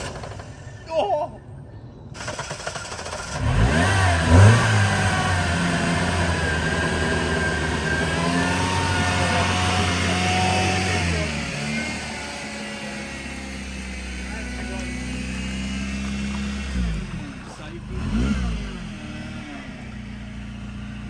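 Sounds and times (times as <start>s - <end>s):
car engine running: 2.2s - 21.0s.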